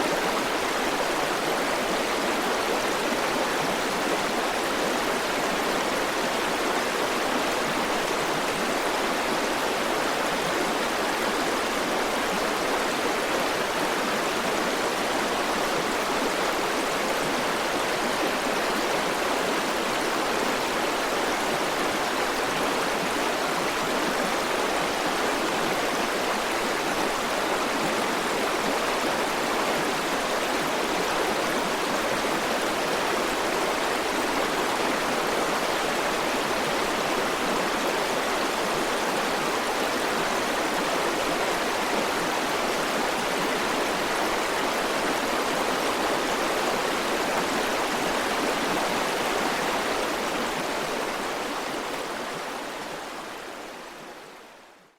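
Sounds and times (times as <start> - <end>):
river water rushing over rocks: 0.0 - 54.7.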